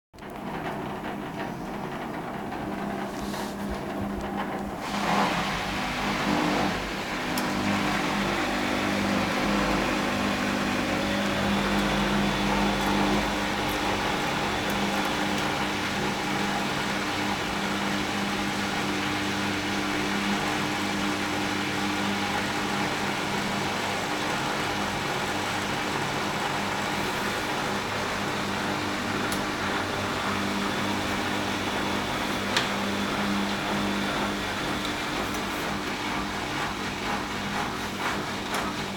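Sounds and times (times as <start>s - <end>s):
washing machine drum spinning: 0.2s - 38.9s.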